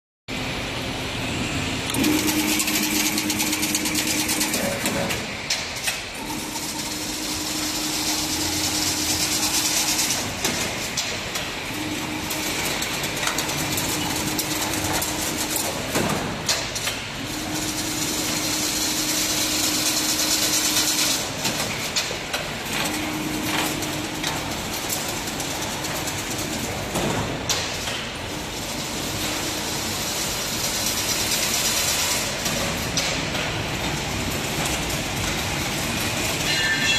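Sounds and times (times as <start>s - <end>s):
machine hum: 0.3s - 36.9s
weaving machine clatter: 1.9s - 36.9s.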